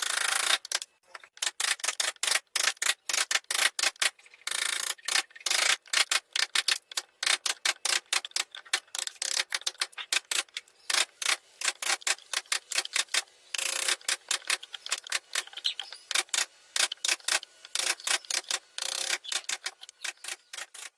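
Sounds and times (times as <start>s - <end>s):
blade scraping wood: 0.0s - 20.9s
carving tools clicking on wood: 0.0s - 20.9s.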